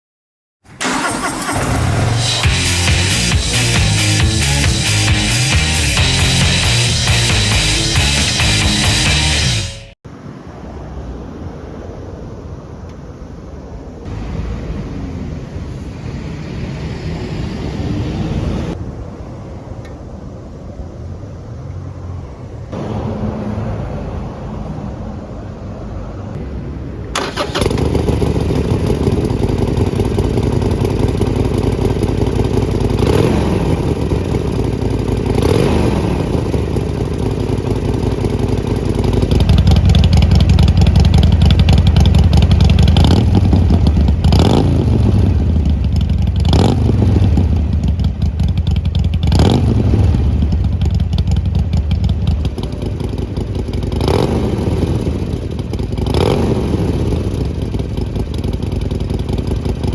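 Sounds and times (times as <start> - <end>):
motorcycle engine idling and revving: 0.7 - 10.0, 19.9 - 59.9.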